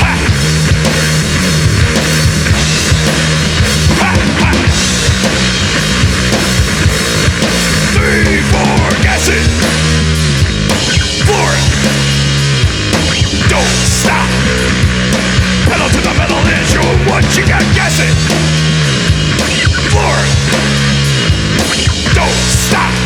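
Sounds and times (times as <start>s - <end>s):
drum kit hitting: 0.0s - 23.0s
low bass riff: 0.0s - 23.0s
rock band playing: 0.0s - 23.0s.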